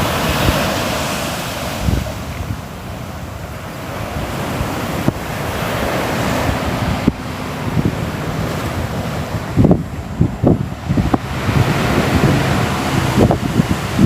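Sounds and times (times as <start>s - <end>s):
ocean waves washing in: 0.0s - 14.0s
wind buffeting microphone: 0.0s - 14.0s.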